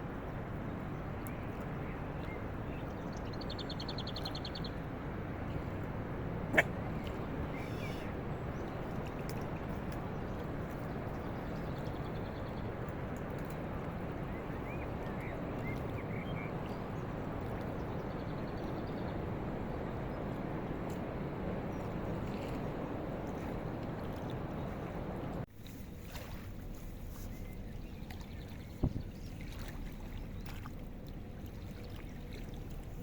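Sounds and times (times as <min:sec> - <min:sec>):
boat passing on river: 0:00.0 - 0:33.0.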